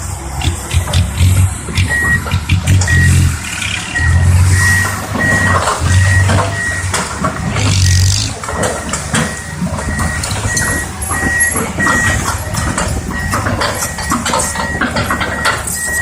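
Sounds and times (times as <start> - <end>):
heavy diesel engines running: 0.0 - 16.0
vehicle back-up alarm beeping: 0.4 - 16.0.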